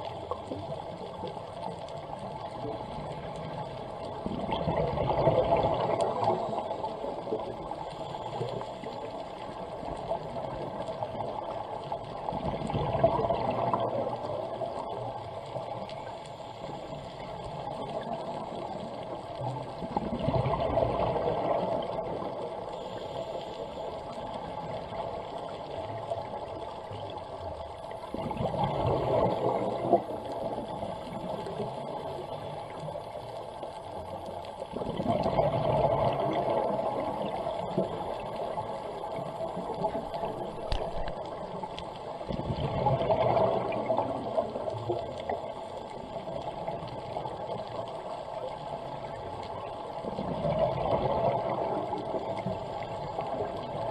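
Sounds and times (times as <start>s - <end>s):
exhaled air bubbling underwater: 0.0s - 53.9s
steady underwater hiss: 0.0s - 53.9s.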